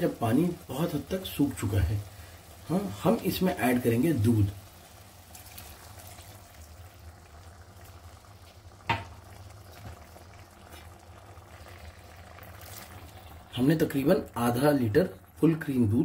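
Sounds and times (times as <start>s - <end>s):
faint simmering: 0.0s - 16.0s
milk pouring into a pan: 0.2s - 15.7s.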